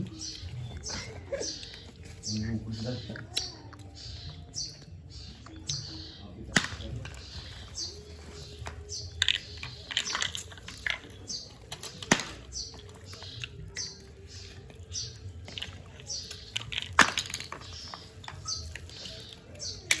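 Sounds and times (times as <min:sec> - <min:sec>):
bird chicks cheeping: 0:00.0 - 0:20.0.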